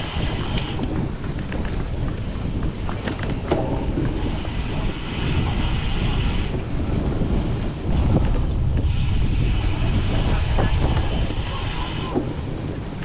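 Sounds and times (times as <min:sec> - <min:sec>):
bike knocks and rattles: 0:00.0 - 0:13.0
wind buffeting microphone: 0:00.0 - 0:13.0.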